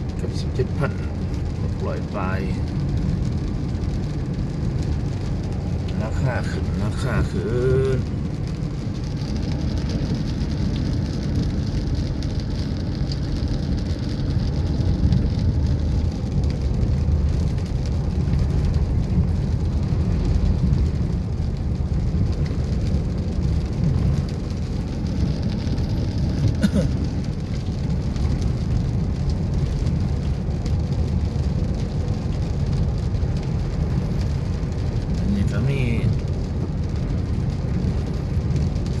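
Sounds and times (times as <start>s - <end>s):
rain hissing: 0.0s - 39.0s
vehicle rumble: 0.0s - 39.0s.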